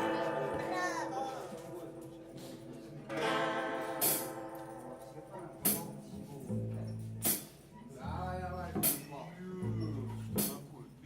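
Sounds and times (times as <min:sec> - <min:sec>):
acoustic guitar strumming: 0:00.0 - 0:10.6.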